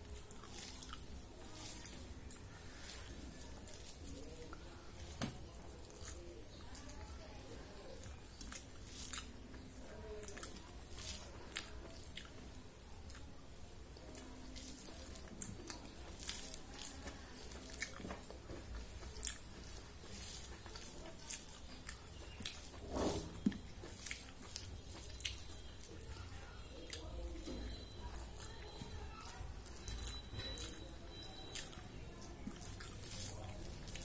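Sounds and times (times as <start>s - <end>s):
rice squishing between fingers: 0.0s - 34.0s
wet chewing: 0.0s - 34.0s.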